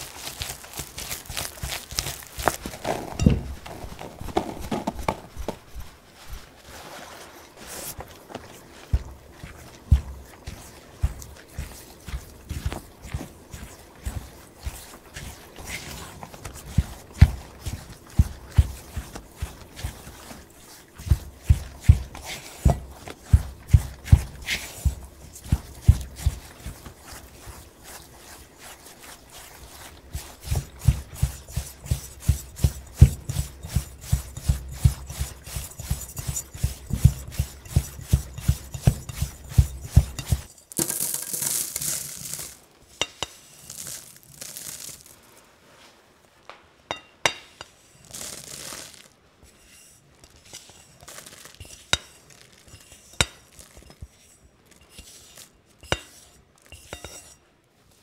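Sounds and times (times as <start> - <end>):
scrape of dry crumbs: 0.0 - 46.0, 47.7 - 58.0.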